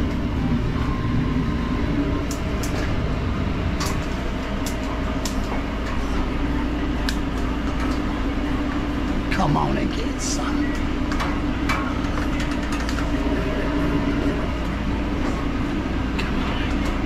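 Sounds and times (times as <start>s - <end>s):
kitchen equipment drone: 0.0s - 17.0s.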